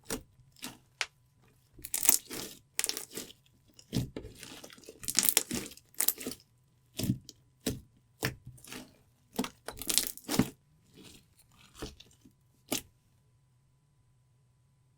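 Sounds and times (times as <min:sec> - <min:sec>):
slime squelching by hand: 0:00.0 - 0:12.9.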